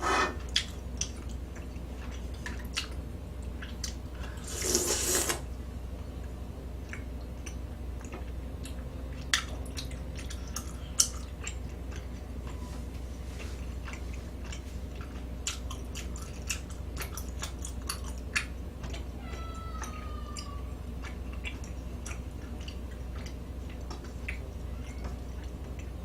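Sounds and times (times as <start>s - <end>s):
steady low hum: 0.0s - 26.0s
person chewing food: 0.3s - 5.3s, 6.2s - 26.0s.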